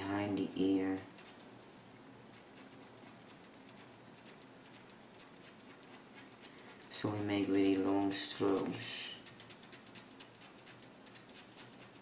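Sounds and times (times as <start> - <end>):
pen nib scratching on paper: 0.9 - 1.5, 2.3 - 12.0.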